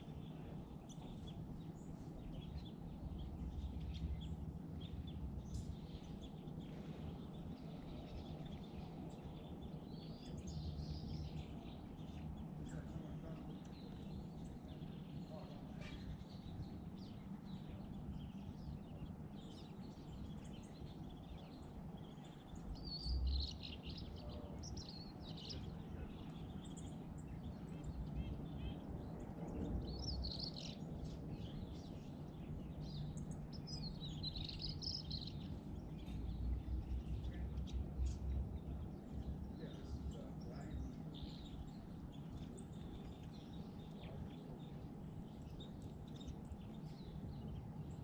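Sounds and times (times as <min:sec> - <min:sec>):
low background noise: 0:00.0 - 0:48.0
small birds chirping: 0:00.0 - 0:48.0.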